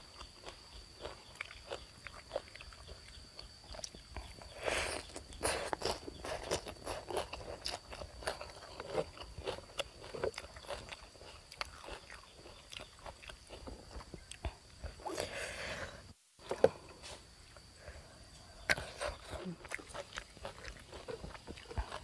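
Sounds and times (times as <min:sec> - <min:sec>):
person chewing and lip-smacking: 0:00.1 - 0:15.3, 0:18.7 - 0:22.0.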